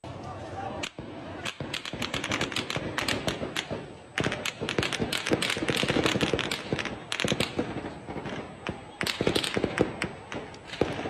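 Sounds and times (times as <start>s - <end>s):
crowd noise: 0.0s - 11.0s
sharp bangs and cracks: 0.8s - 11.0s.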